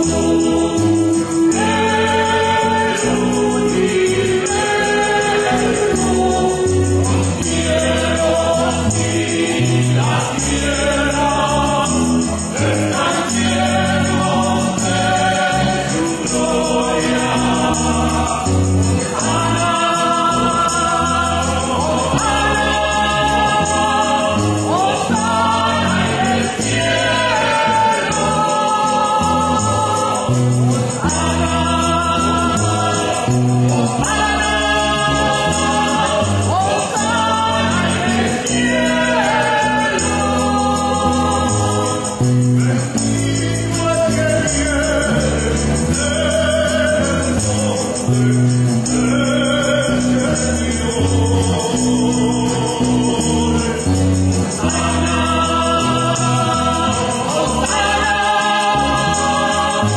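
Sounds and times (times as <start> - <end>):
acoustic bass guitar: 0.0 - 59.9
acoustic guitar: 0.0 - 59.9
choir singing a hymn: 0.0 - 59.9
tambourine jingles: 0.0 - 59.9.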